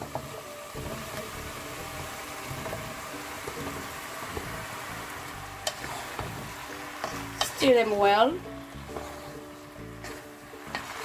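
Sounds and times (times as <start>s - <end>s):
oil sizzling in a pot: 0.0s - 11.0s
wooden spatula stirring: 0.0s - 11.0s.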